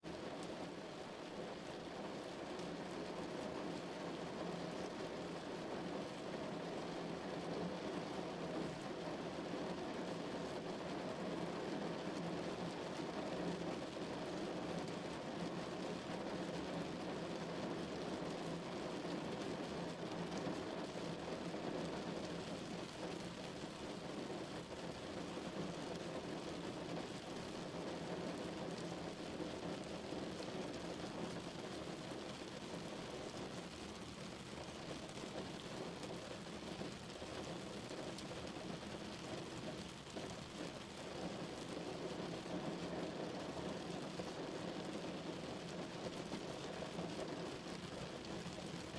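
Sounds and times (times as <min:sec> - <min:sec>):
heavy rain on car body: 0:00.1 - 0:48.9.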